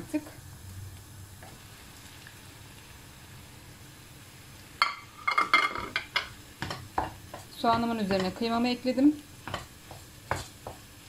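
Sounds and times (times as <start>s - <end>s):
faint frying sizzle: 0.0s - 11.0s.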